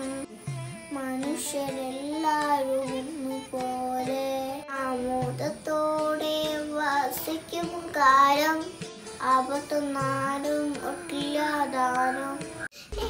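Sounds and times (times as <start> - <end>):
boy singing: 0.0 - 13.0.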